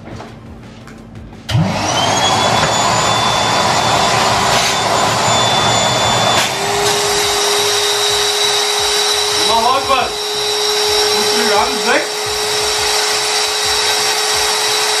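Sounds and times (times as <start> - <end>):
vacuum cleaner motor whine: 1.5 - 15.0.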